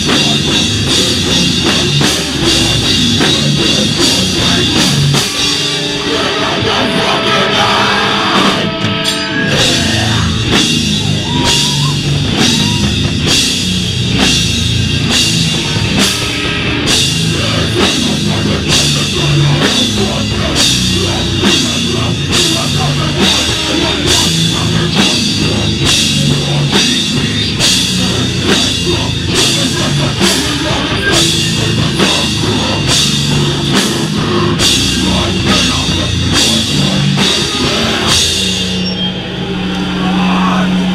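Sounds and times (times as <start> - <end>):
drum and cymbal hits: 0.0 - 38.8
distorted guitar: 0.0 - 40.9
hardcore band playing: 0.0 - 40.9.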